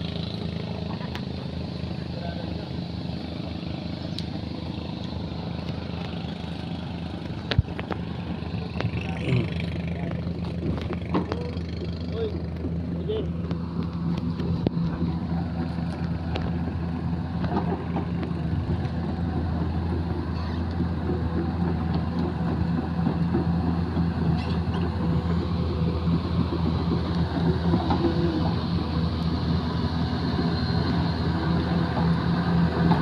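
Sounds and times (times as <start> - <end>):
excavator diesel engine drone: 0.0 - 33.0.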